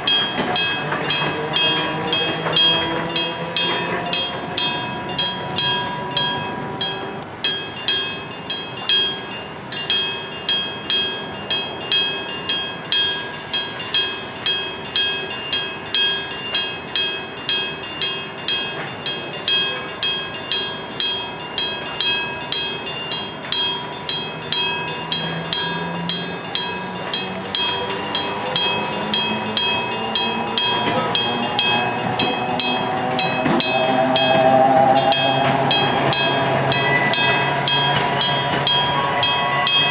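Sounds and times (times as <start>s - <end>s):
train running noise: 0.0s - 39.9s
level crossing bell ringing: 0.1s - 39.9s.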